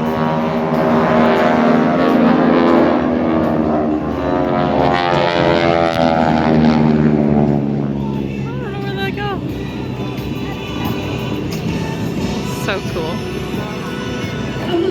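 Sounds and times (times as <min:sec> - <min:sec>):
airplane engines droning: 0:00.0 - 0:14.9.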